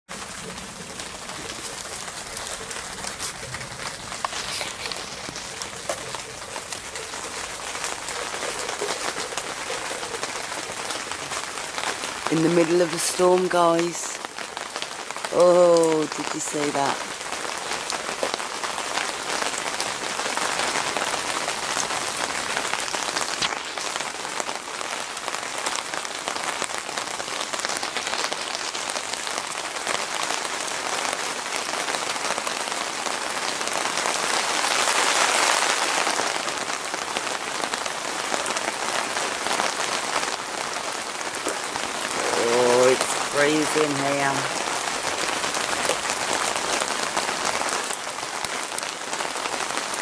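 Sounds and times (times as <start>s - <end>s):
heavy rain falling: 0.1s - 50.0s.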